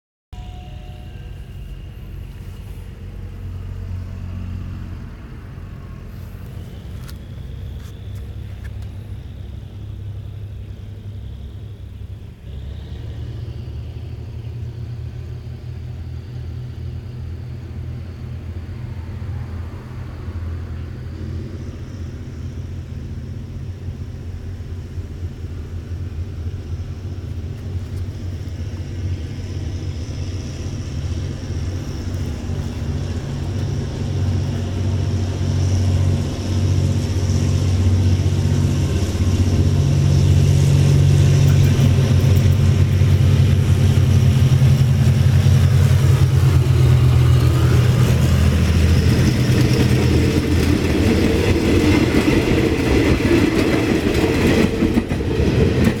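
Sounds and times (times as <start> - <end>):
locomotive engine droning: 0.3 - 56.0
train wheels rumbling on track: 0.4 - 56.0.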